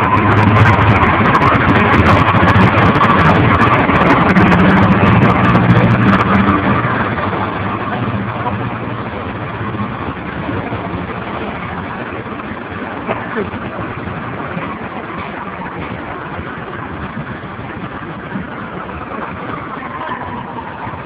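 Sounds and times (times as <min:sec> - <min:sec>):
diesel locomotive engine: 0:00.0 - 0:21.0
wagons rumbling past: 0:00.0 - 0:21.0
wheels clacking on rails: 0:00.0 - 0:21.0.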